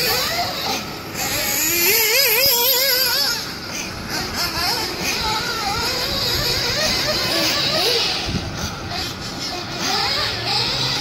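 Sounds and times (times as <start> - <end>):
rc car engine revving: 0.0 - 11.0.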